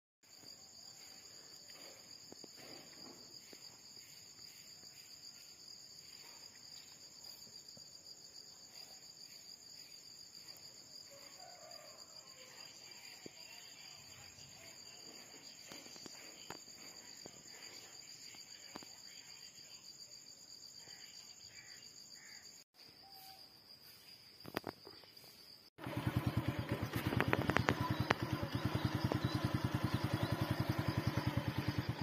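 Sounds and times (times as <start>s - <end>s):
crickets chirring: 0.2s - 32.0s.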